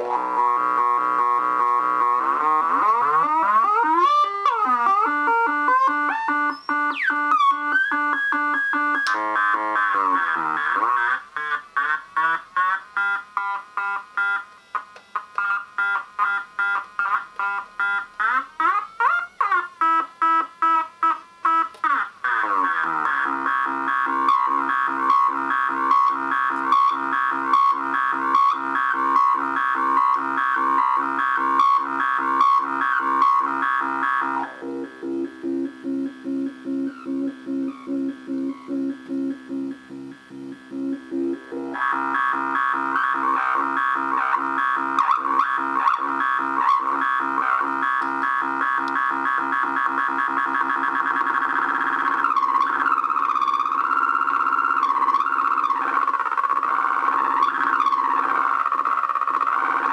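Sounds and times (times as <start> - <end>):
buzzy synthesizer tones: 0.0 - 14.4, 15.4 - 59.9.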